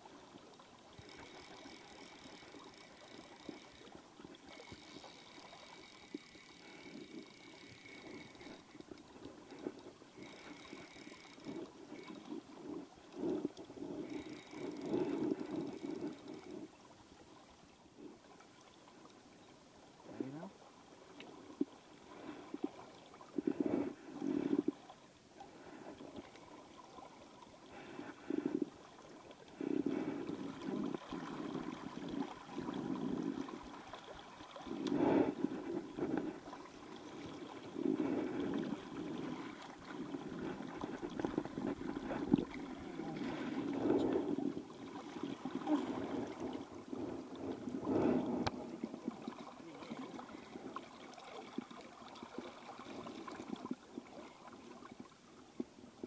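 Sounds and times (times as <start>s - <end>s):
river water gurgling: 0.0s - 56.0s
water splashes: 0.0s - 56.0s.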